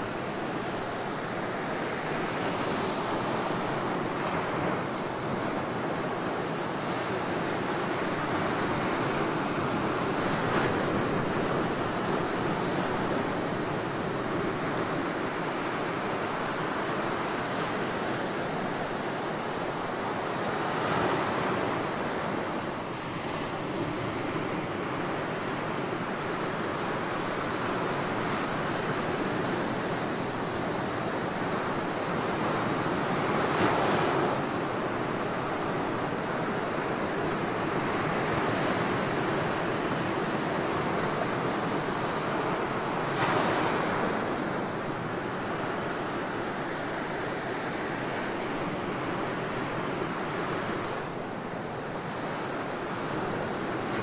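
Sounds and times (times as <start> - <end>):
ocean surf washing on beach: 0.0 - 54.0.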